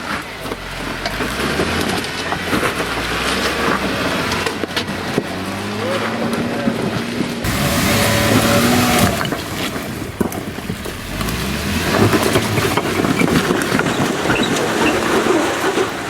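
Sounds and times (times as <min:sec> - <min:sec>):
tyres crunching over rock: 0:00.0 - 0:16.0
vehicle engine working under load: 0:00.0 - 0:16.0.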